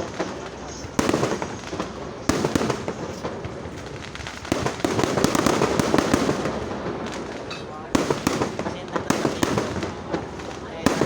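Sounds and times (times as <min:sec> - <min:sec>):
fireworks banging: 0:00.0 - 0:11.0
fireworks crackling: 0:00.0 - 0:11.0.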